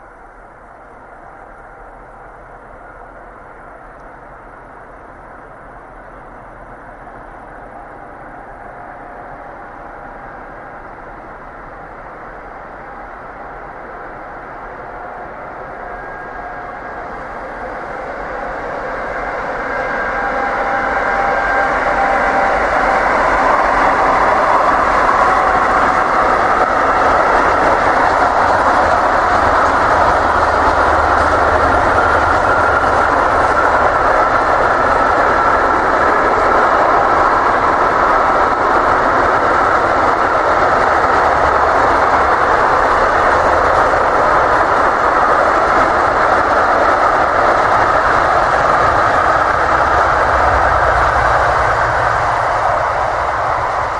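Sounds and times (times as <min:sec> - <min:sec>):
freight train wheels rushing on rail: 0:00.0 - 0:53.9.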